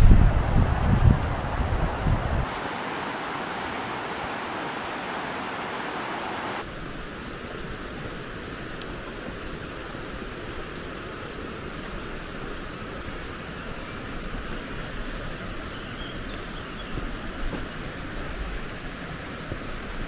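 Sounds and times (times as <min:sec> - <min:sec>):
outdoor hiss: 0:00.0 - 0:20.0
rushing rocky river: 0:00.0 - 0:20.0.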